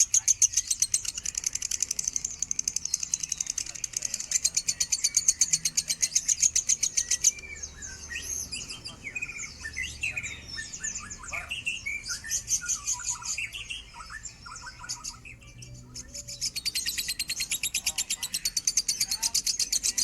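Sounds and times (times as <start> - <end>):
lovebird singing: 0.0 - 20.0.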